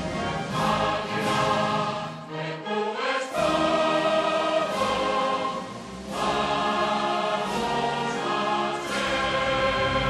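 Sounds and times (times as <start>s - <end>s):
choir singing sustained chords: 0.0s - 10.0s.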